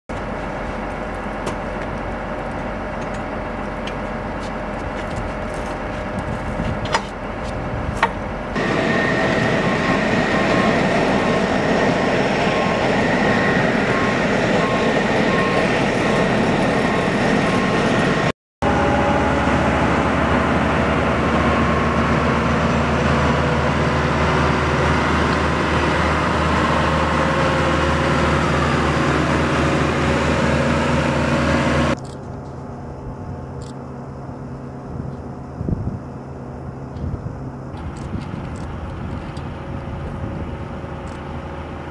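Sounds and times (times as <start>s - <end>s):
tow tractor engine running: 0.1s - 35.5s, 36.3s - 41.9s.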